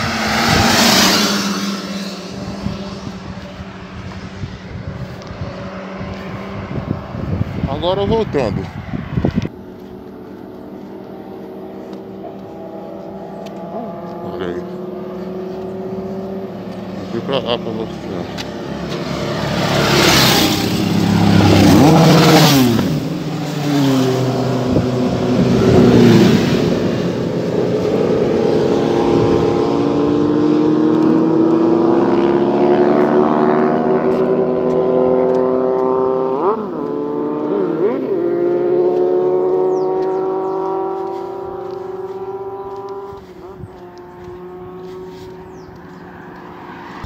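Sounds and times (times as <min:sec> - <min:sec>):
motorcycle engine climbing: 0:00.0 - 0:47.0
motorcycles passing by: 0:00.0 - 0:47.0.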